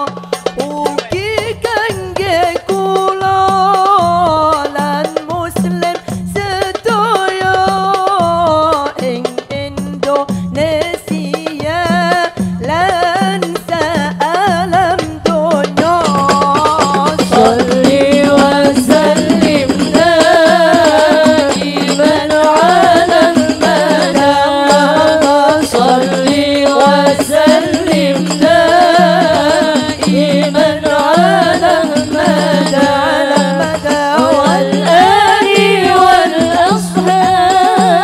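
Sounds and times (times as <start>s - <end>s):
percussion beat: 0.0s - 38.0s
women singing devotional song: 0.0s - 38.0s.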